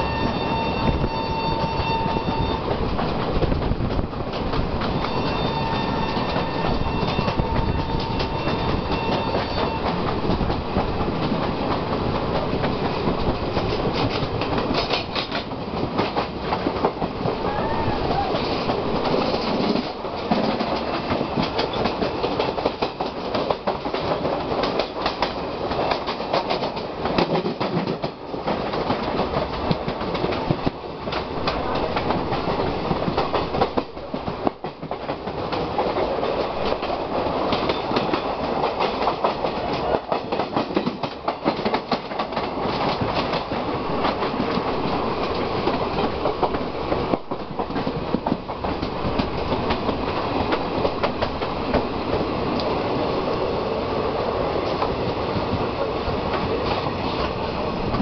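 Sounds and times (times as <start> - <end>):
train running noise: 0.0 - 58.0
wheels clickety-clack over joints: 0.0 - 58.0.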